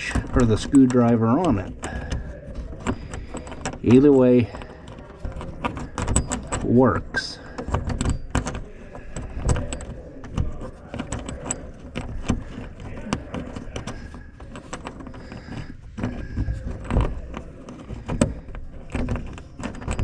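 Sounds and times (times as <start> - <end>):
wrenches clicking on bolts: 0.0 - 20.0.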